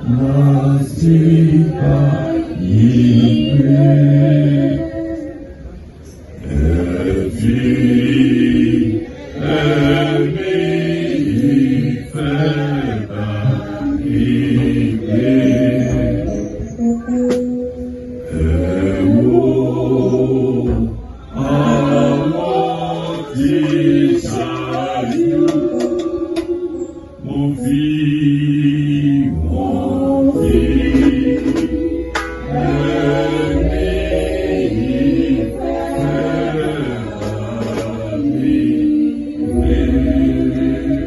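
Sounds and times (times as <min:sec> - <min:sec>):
congregation singing a hymn: 0:00.0 - 0:41.0.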